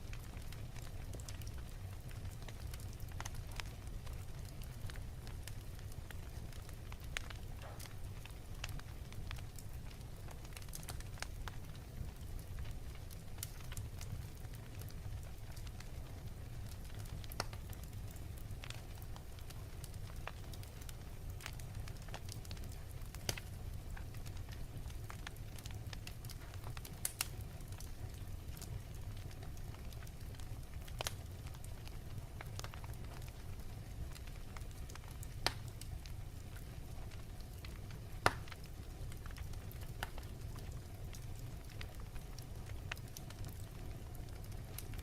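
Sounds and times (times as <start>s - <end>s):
fire crackling and popping: 0.0s - 45.0s
fire rumbling: 0.0s - 45.0s.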